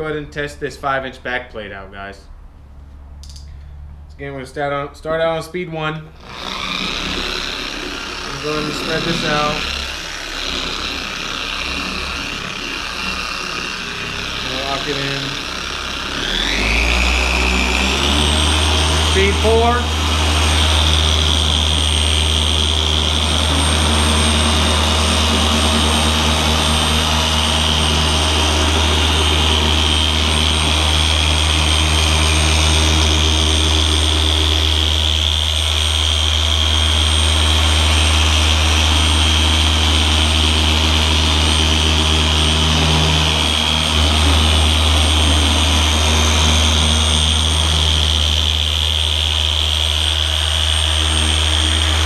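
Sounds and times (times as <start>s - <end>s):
orbital polisher humming: 6.1s - 52.0s.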